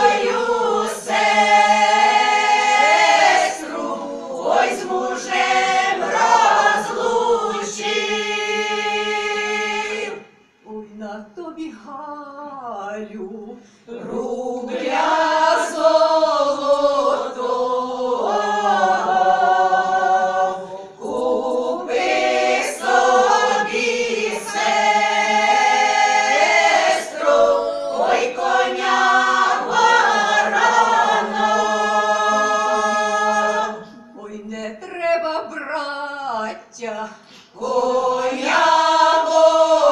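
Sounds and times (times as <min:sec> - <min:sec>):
women's choir singing a cappella: 0:00.0 - 0:11.9, 0:12.6 - 0:34.8, 0:35.4 - 0:39.9.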